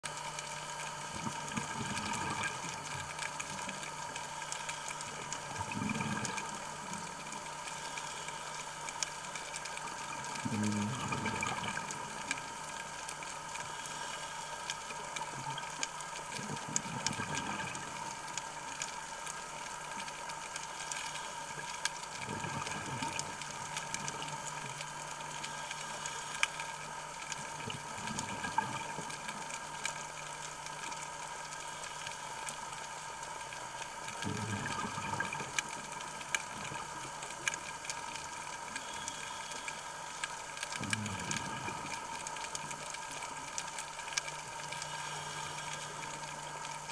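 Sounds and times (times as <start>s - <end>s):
exhaled bubbles underwater: 0.0s - 14.0s, 14.6s - 46.9s
faint clicks: 0.0s - 46.9s
steady high hum: 0.0s - 46.9s.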